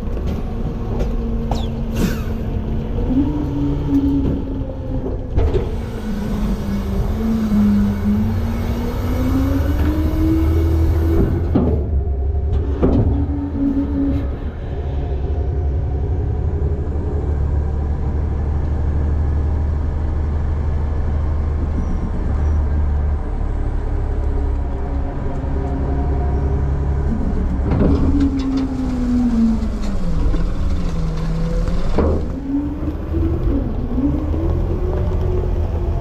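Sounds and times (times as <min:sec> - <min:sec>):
garbage truck engine rumble: 0:00.0 - 0:36.0.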